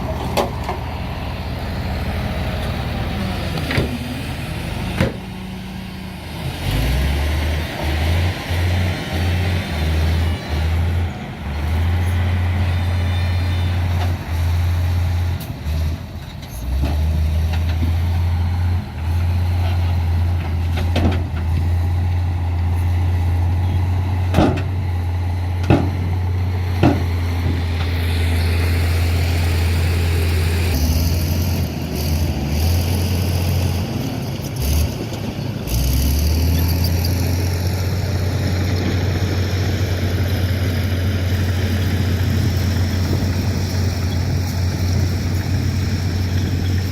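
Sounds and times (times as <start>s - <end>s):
diesel truck engines running: 0.0s - 46.9s.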